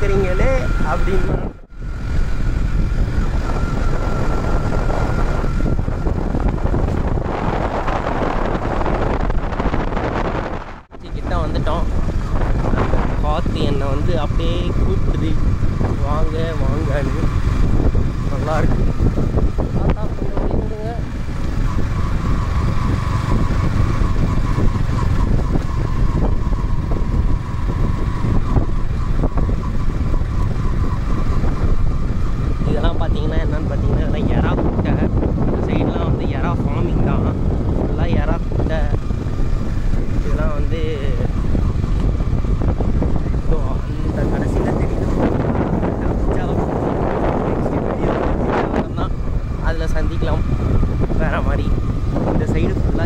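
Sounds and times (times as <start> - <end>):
motorcycle engine running: 0.0 - 53.0
wind rushing over microphone: 0.0 - 53.0.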